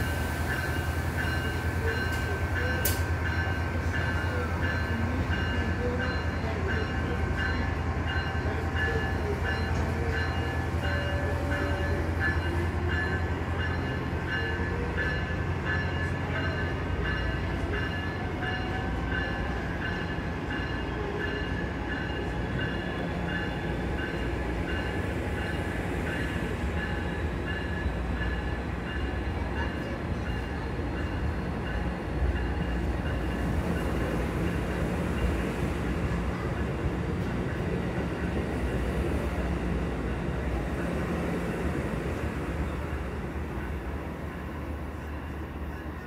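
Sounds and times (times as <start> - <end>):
train engine rumbling: 0.0 - 46.0.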